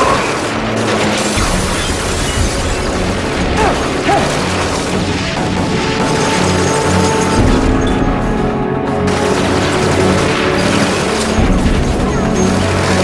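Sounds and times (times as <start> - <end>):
dense mechanical sound effects: 0.0 - 13.0
music with sustained low notes: 0.0 - 13.0.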